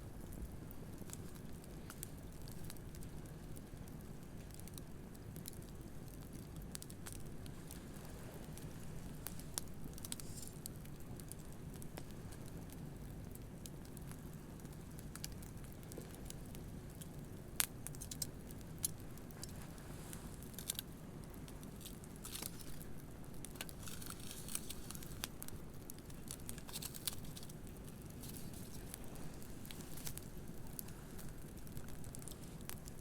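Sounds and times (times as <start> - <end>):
bonfire crackling and popping: 0.0 - 33.0.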